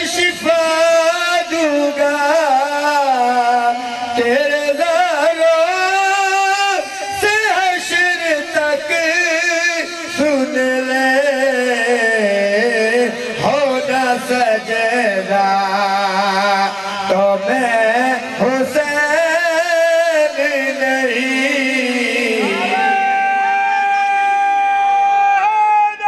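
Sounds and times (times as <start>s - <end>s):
man singing devotional recitation: 0.0s - 26.0s.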